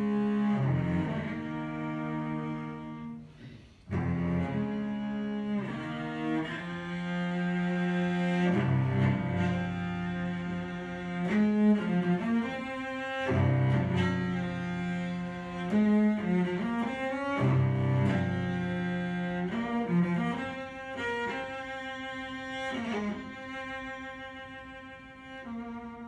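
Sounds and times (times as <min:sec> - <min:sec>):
cello playing slow bowed notes: 0:00.0 - 0:26.0.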